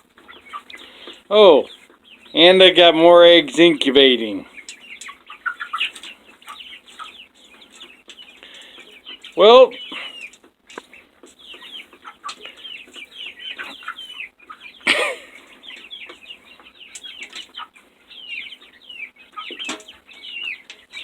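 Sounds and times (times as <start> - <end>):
chickens peeping: 0.0 - 21.0.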